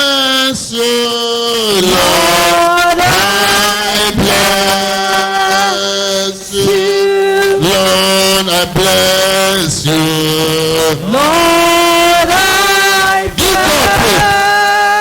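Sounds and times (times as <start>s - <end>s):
person singing chant-like melody: 0.0s - 15.0s.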